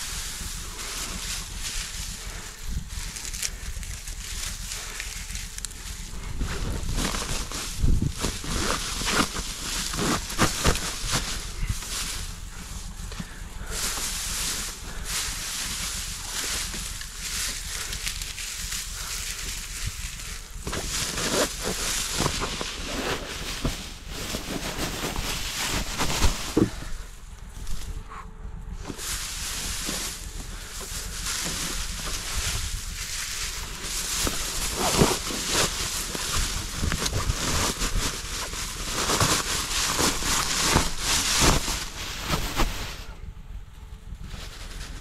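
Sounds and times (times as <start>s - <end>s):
dry grass rustling and crackling: 0.0s - 45.0s
wind rumbling on microphone: 0.0s - 45.0s.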